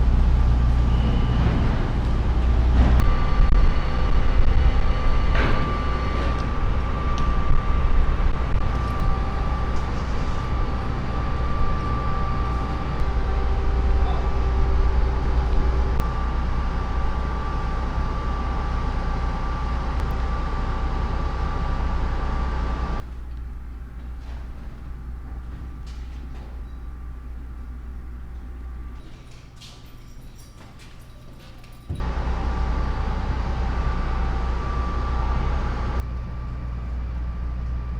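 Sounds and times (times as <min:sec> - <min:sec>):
faint whine: 0:00.0 - 0:29.1, 0:31.9 - 0:37.9
train rumble: 0:00.0 - 0:37.9.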